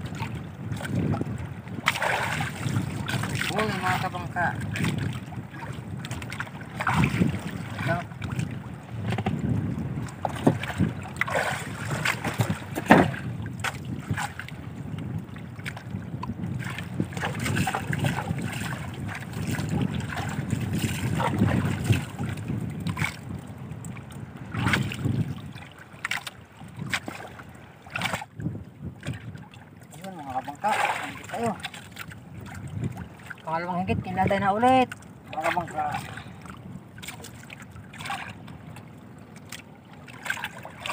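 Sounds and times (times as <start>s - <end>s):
water washing against hull: 0.0s - 40.9s
wind buffeting microphone: 0.0s - 40.9s.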